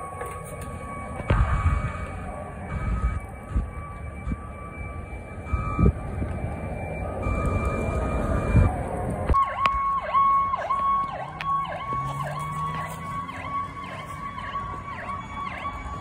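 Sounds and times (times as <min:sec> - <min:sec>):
fire truck siren: 0:00.0 - 0:16.0
heavy vehicle rumble: 0:00.0 - 0:16.0.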